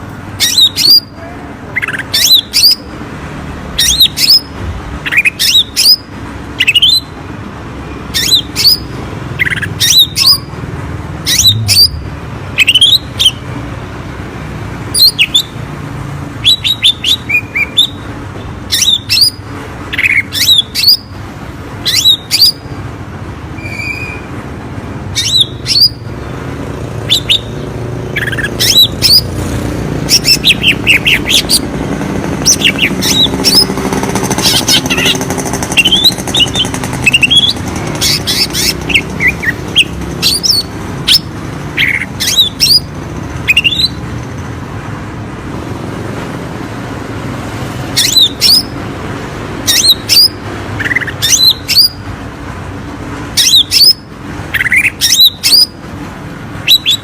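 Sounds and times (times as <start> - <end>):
bird song sharp sweeping calls: 0.0 - 3.0, 3.7 - 13.5, 14.8 - 24.4, 25.0 - 44.1, 47.4 - 52.1, 53.3 - 55.8, 56.6 - 57.0.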